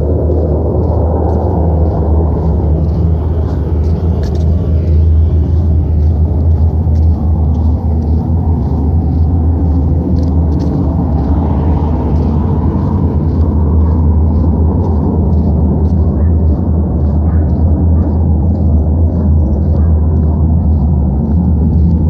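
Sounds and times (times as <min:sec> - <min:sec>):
faint footsteps: 0:00.0 - 0:22.0
low rumbling hum: 0:00.0 - 0:22.0.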